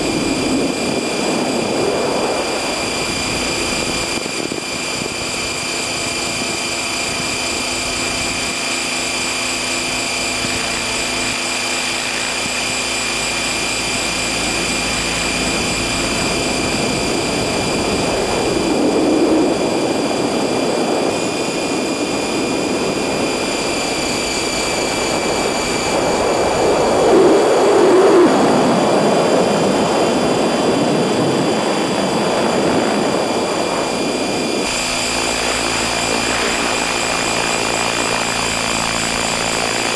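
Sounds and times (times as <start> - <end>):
helicopter rotor noise: 0.0 - 39.9
motor and gear whine: 0.0 - 39.9.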